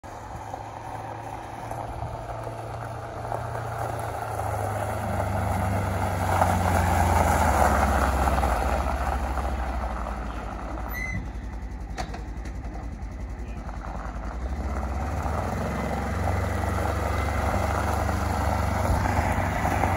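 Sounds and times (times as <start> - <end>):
vehicle engine running: 0.0 - 19.9
tyres crunching over gravel: 0.1 - 19.9.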